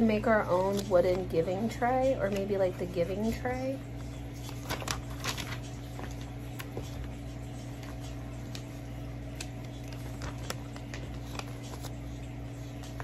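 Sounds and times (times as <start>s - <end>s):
steady low hum: 0.0s - 13.0s
catalog pages rustling: 0.2s - 13.0s.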